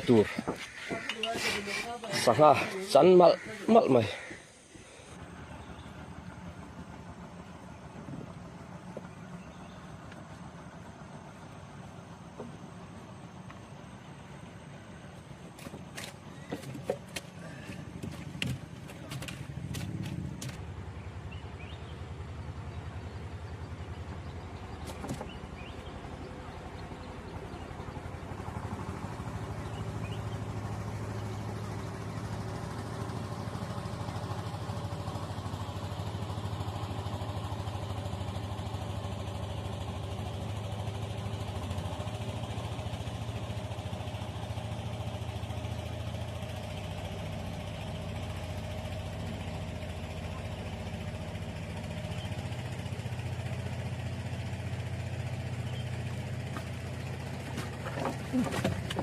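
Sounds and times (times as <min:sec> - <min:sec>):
low hum: 0:04.5 - 0:59.0
small engine running: 0:04.8 - 0:59.0.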